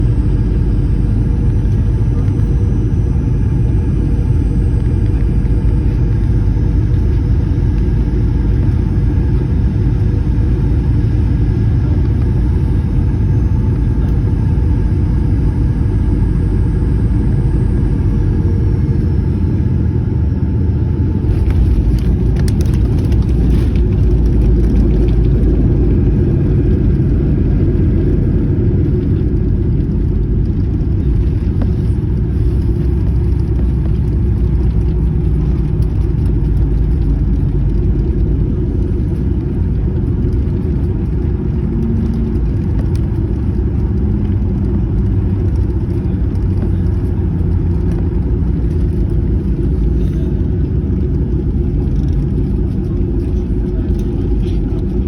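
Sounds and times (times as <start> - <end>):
heavy jet rumble: 0.0 - 55.0
jet engine whine: 0.0 - 55.0.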